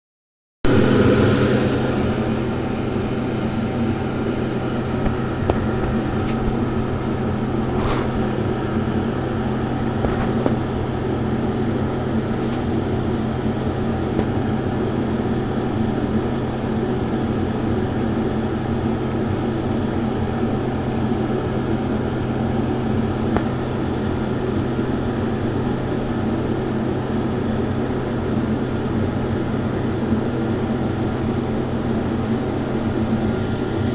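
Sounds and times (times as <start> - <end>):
low mechanical hum with rumbling: 0.7 - 33.9.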